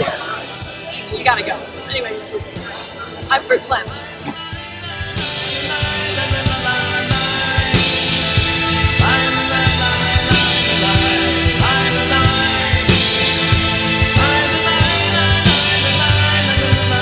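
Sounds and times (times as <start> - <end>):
band music with drum kit: 0.0 - 17.0.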